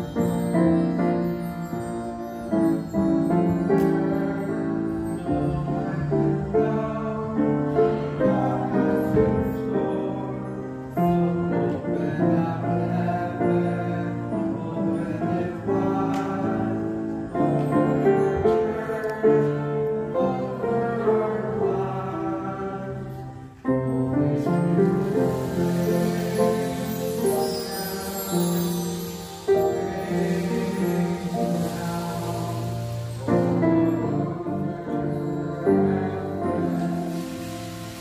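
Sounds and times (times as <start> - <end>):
piano playing chords: 0.0 - 38.0
people singing: 2.6 - 38.0.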